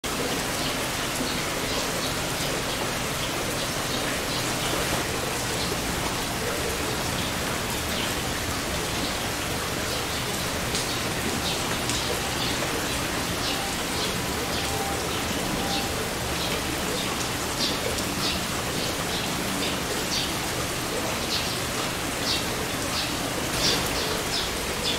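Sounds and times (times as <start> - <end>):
heavy rain falling: 0.0 - 24.9
raindrops tapping on surfaces: 0.1 - 24.9.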